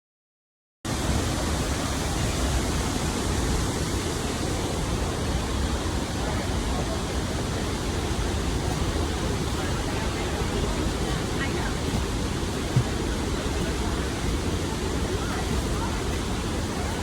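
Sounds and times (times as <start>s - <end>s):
rushing river water: 0.9s - 17.0s.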